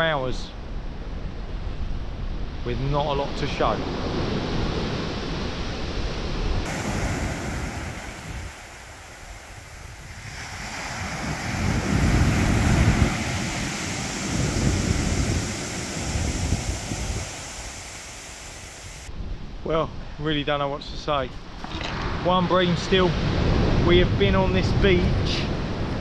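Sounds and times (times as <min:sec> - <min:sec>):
wind buffeting microphone: 0:00.5 - 0:26.0
surf on shingle beach: 0:02.5 - 0:19.1, 0:21.4 - 0:26.0.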